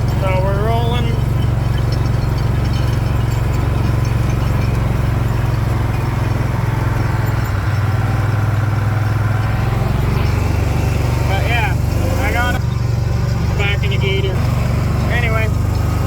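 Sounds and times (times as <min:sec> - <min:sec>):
farm vehicle engine running: 0:00.0 - 0:16.0.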